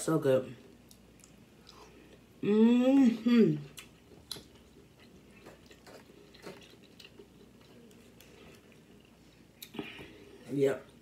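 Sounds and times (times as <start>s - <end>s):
quiet chewing: 0.6s - 2.4s, 3.0s - 11.0s.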